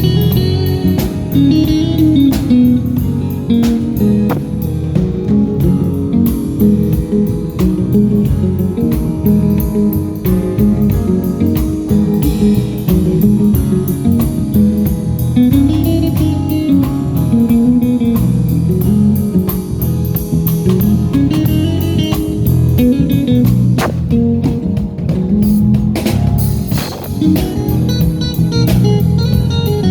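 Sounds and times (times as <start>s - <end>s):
bass: 0.0s - 29.9s
guitar lines: 0.0s - 29.9s
steady drum beat: 0.0s - 29.9s.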